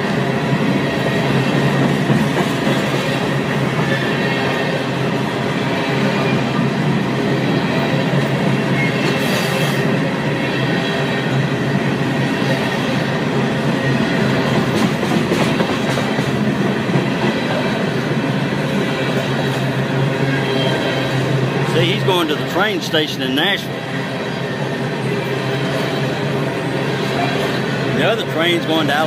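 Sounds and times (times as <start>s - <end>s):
train cars rolling on track: 0.0s - 29.0s.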